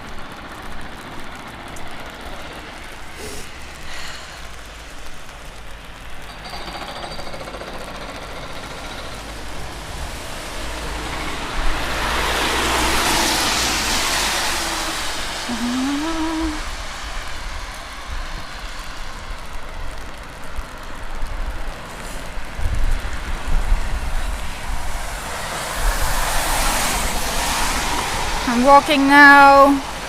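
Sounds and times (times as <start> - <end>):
low rumble of traffic: 0.0 - 30.0
tyres hissing on wet road: 0.0 - 30.0.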